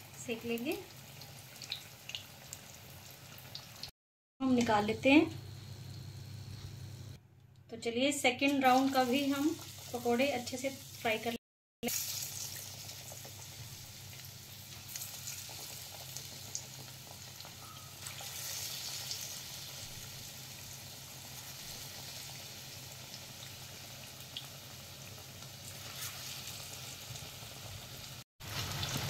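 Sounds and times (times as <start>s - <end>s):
oil sizzling while deep-frying: 0.0s - 7.2s, 8.4s - 29.0s.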